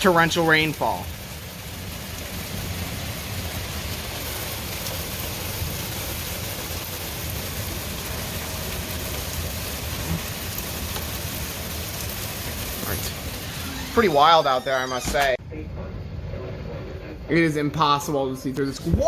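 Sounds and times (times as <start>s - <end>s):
torrential rain pouring: 0.0s - 19.0s.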